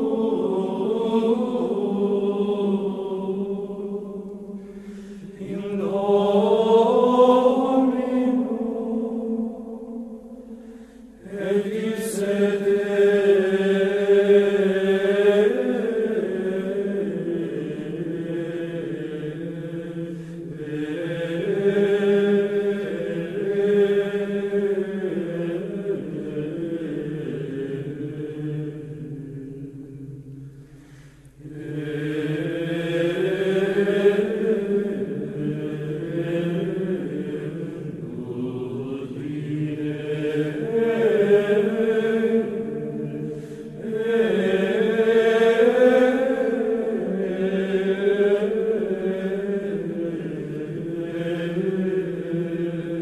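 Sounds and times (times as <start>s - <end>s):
voices singing sacred chant: 0.0s - 30.5s, 31.4s - 53.0s.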